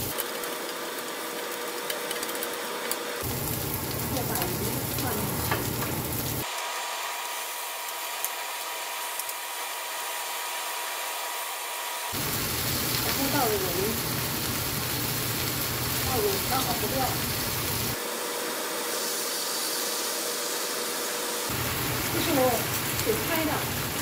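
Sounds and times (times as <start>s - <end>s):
hot oil sizzling in a frying pan: 0.0s - 24.0s.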